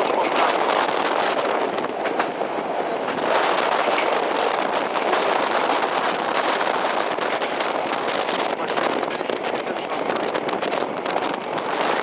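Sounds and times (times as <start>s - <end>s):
rapid clicks of train wheels: 0.0s - 12.0s
train rushing noise: 0.0s - 12.0s
wind buffeting microphone: 0.0s - 12.0s.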